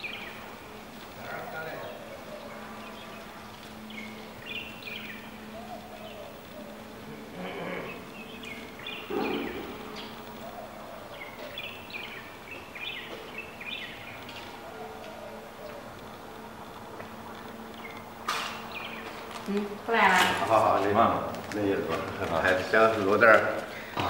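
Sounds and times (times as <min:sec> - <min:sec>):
low hum: 0:00.0 - 0:21.5.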